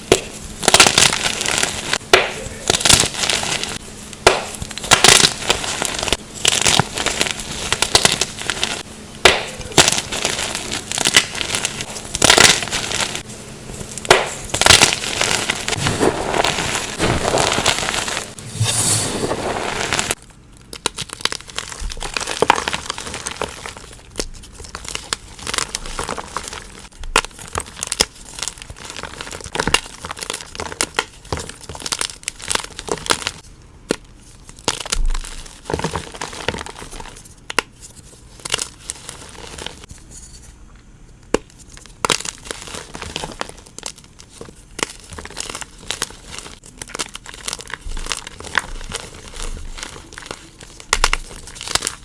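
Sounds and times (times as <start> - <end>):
chalk being crushed and crumbled: 0.1 - 40.4, 41.3 - 52.0.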